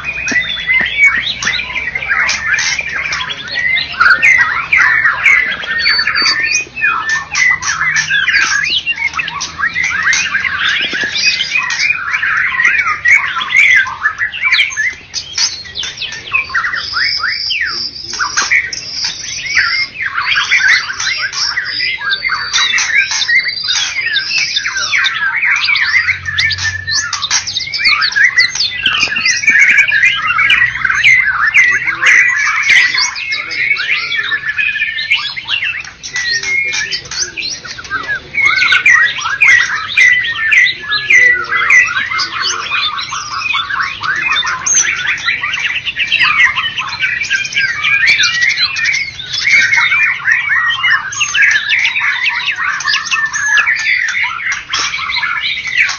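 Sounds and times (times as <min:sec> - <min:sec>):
songbird singing rapid notes: 0:00.0 - 0:55.9.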